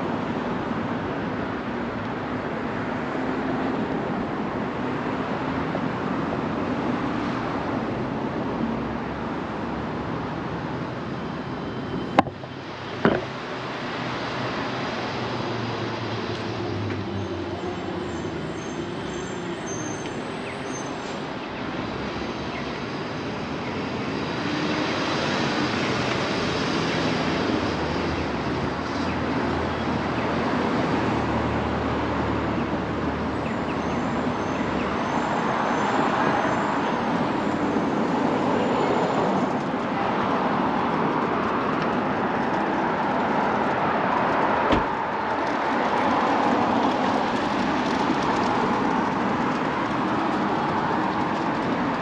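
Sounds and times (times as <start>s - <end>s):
road traffic noise: 0.0s - 52.0s
vehicles passing: 0.0s - 52.0s.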